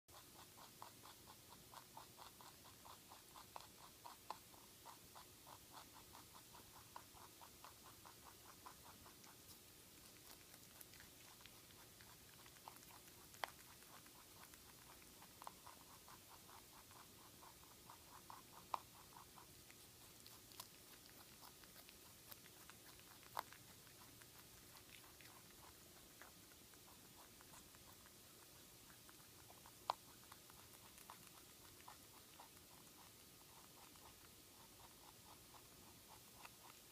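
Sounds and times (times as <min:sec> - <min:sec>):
rabbit crunching carrot: 0:00.1 - 0:36.9.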